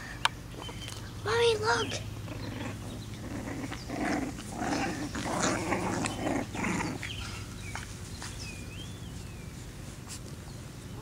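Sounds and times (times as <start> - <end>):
puppies making rough noises: 1.6 - 11.0.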